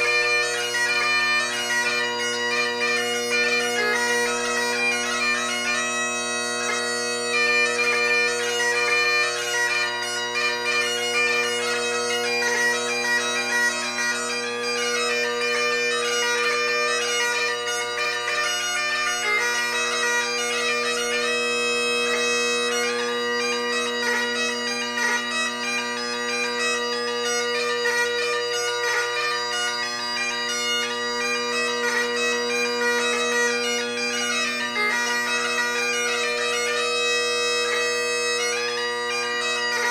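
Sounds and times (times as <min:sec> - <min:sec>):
bagpipe playing: 0:00.0 - 0:39.9.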